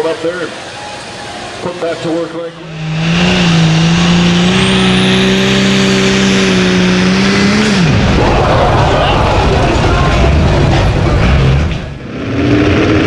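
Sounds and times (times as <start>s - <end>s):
tractor engine droning: 2.3s - 13.0s.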